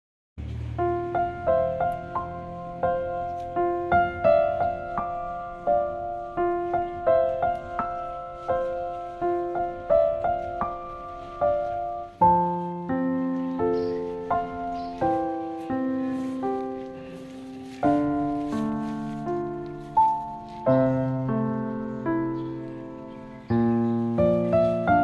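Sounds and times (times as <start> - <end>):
piano music: 0.4 - 25.0.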